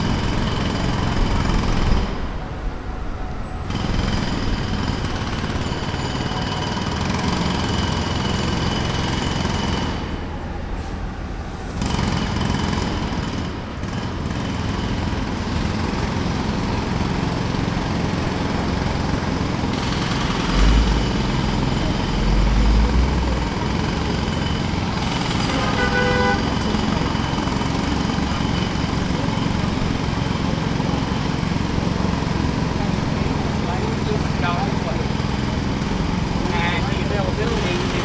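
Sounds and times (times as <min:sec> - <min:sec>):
jackhammer hammering: 0:00.0 - 0:02.3, 0:03.7 - 0:10.2, 0:11.8 - 0:38.0.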